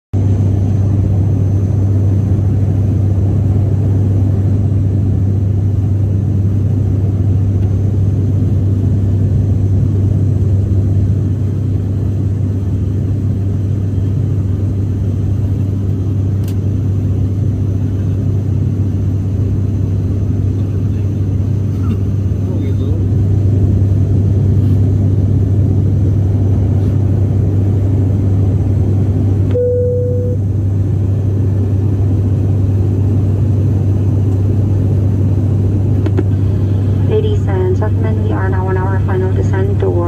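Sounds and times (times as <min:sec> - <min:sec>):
turboprop engine drone in cabin: 0:00.1 - 0:40.0.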